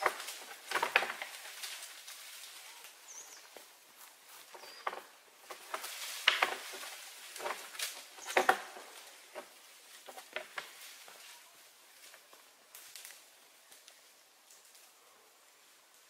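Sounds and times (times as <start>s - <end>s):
twigs and dry leaves snapping: 0.0s - 3.7s, 4.4s - 15.0s.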